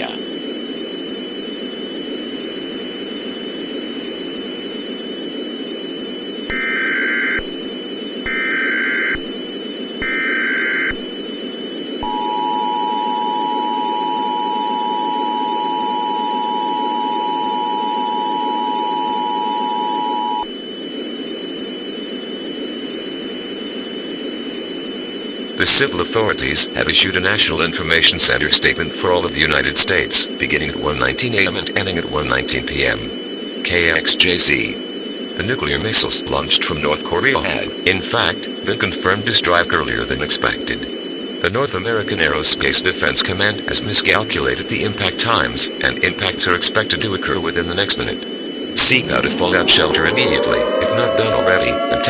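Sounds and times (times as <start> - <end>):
faint high whine: 0.0 - 52.0
radio static hiss: 0.0 - 52.0.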